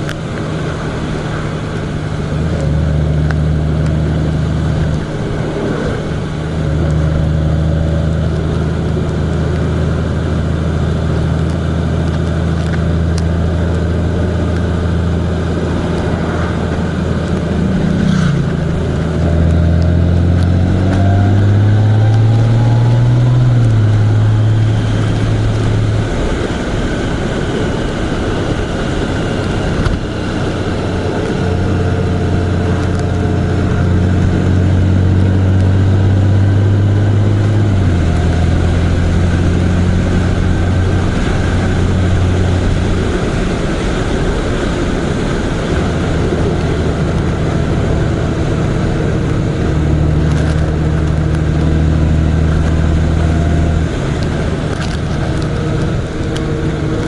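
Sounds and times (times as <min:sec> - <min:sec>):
road and wind rush: 0:00.0 - 0:57.0
vehicle engine running: 0:00.0 - 0:57.0.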